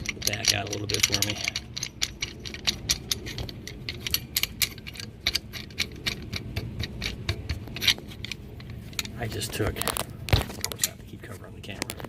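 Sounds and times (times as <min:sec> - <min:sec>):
metal tools clinking on caliper: 0:00.0 - 0:11.2.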